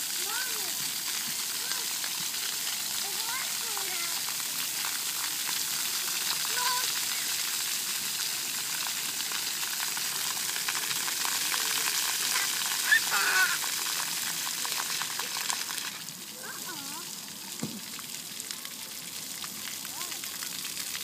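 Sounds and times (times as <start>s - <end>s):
fountain jets spraying water: 0.0s - 21.0s.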